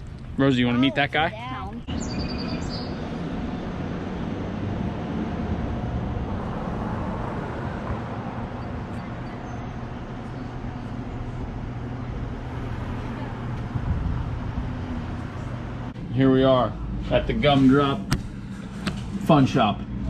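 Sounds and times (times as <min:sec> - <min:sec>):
vehicle road noise rumble: 0:00.0 - 0:20.0.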